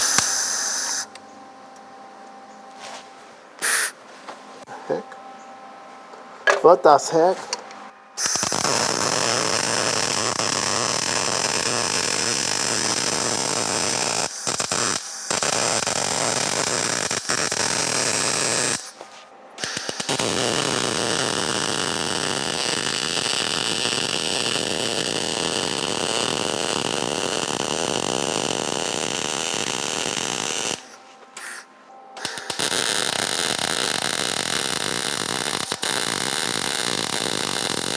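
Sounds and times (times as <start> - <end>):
welder arc crackling and buzzing: 0.0 - 1.2, 8.2 - 37.9.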